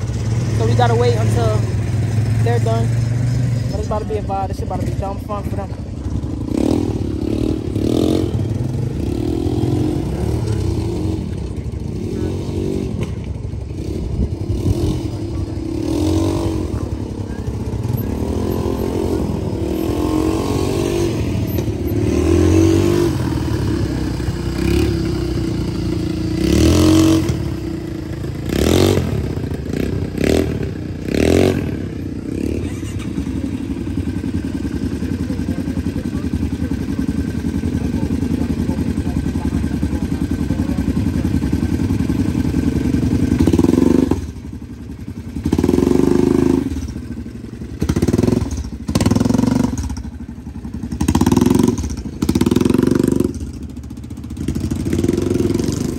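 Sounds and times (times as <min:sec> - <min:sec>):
quad bike engines revving: 0:00.0 - 0:55.9.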